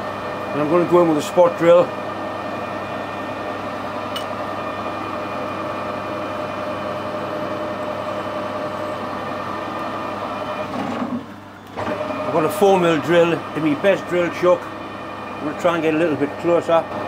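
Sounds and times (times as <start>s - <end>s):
metal lathe humming: 0.0s - 17.0s.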